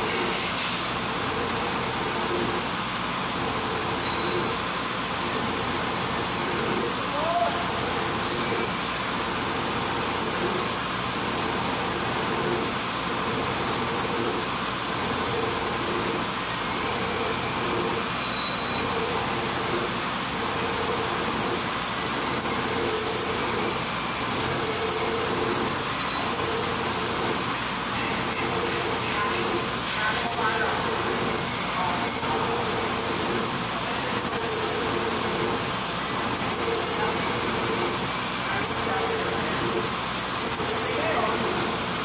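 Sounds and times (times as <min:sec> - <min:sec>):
milling machine cutting steel: 0:00.0 - 0:42.0.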